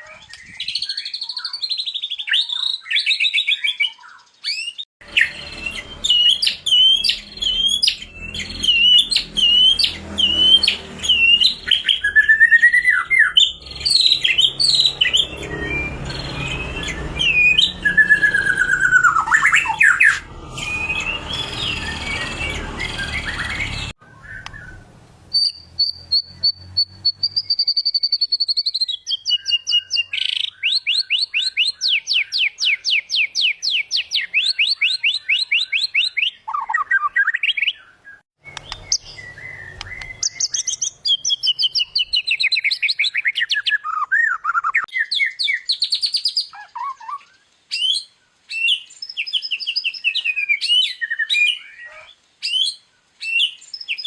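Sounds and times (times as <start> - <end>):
bird singing varied whistled song: 0.0 - 54.0.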